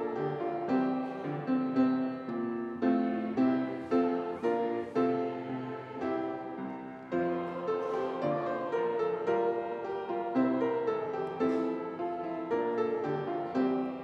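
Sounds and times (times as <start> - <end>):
piano playing slow melody: 0.0 - 14.0.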